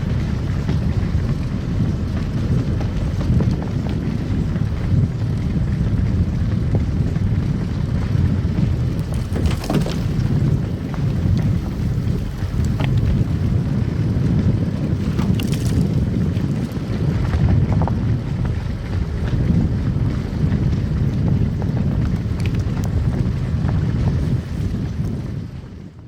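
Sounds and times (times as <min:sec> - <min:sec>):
tyres rumbling on snowy road: 0:00.0 - 0:26.0.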